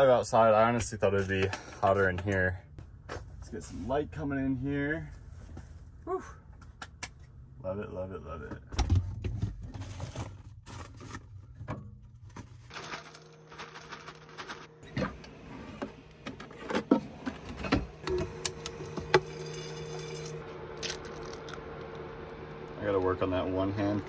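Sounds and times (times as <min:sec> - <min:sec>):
steady low hum: 0:00.0 - 0:09.8, 0:10.5 - 0:24.0.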